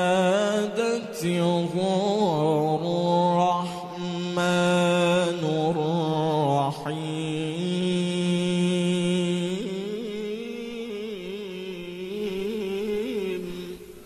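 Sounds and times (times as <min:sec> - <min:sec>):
man reciting melodic chant: 0:00.0 - 0:14.0.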